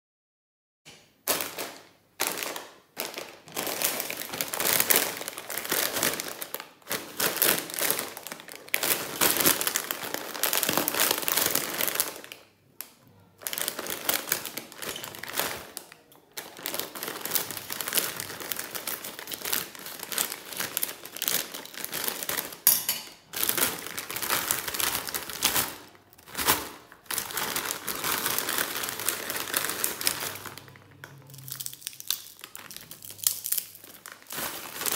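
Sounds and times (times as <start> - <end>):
plastic packets crinkling: 1.2 - 34.9.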